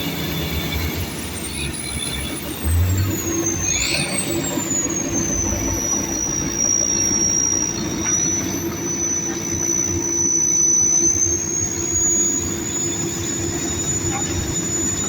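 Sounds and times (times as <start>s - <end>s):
high-pitched machine whine: 0.0s - 15.0s
low engine hum: 0.0s - 15.0s.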